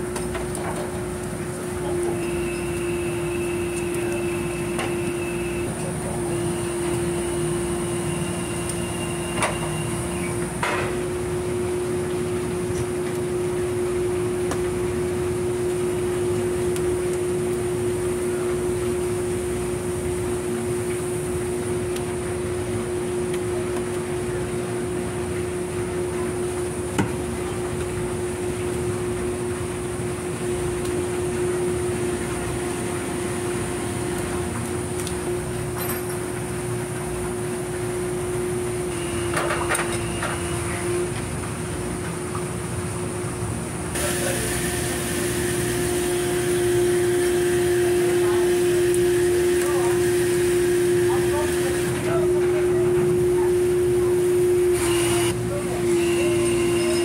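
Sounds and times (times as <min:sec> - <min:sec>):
machinery drone with pitched hum: 0:01.4 - 0:42.1, 0:42.9 - 0:57.0.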